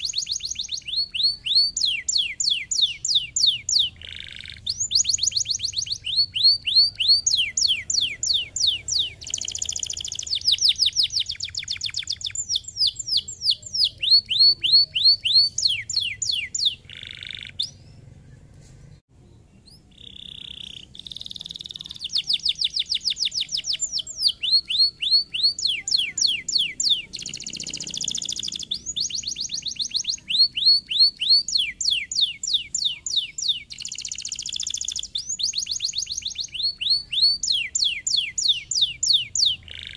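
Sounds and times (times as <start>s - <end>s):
canary singing trills: 0.0s - 18.5s, 19.2s - 39.9s.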